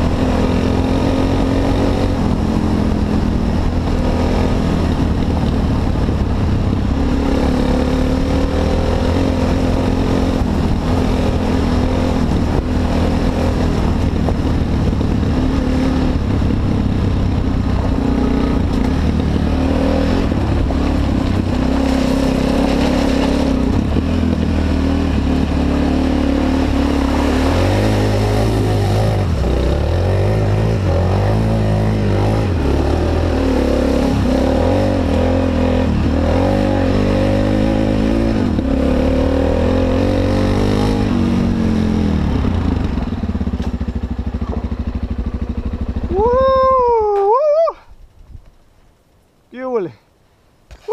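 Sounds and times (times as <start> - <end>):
motorcycle engine revving: 0.0 - 47.2.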